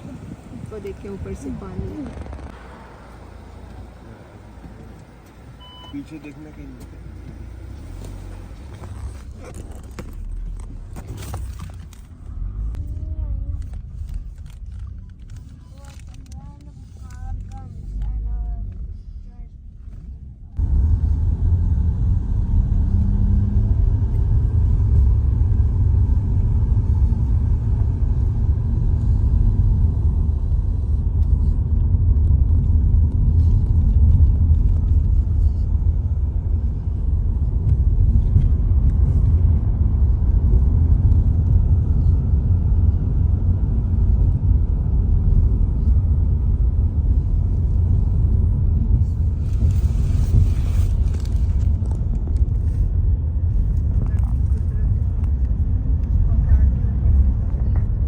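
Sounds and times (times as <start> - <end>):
car cabin road rumble: 0.0 - 58.0.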